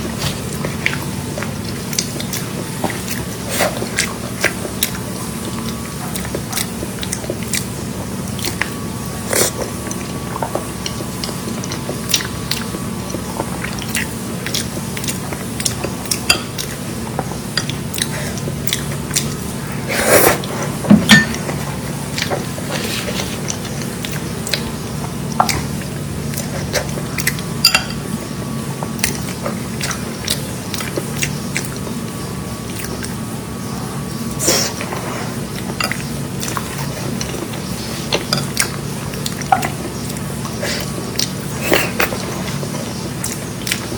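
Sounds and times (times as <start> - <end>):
close chewing: 0.0 - 43.9.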